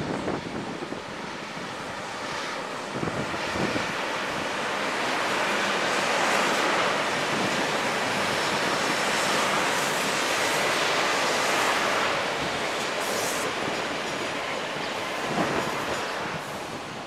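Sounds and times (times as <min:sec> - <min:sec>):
train rolling past: 0:02.8 - 0:17.0.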